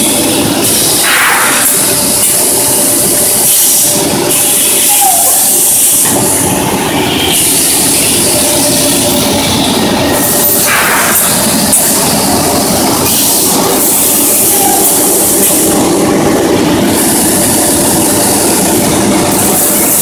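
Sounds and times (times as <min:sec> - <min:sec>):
machine clatter and hum: 0:00.0 - 0:20.0.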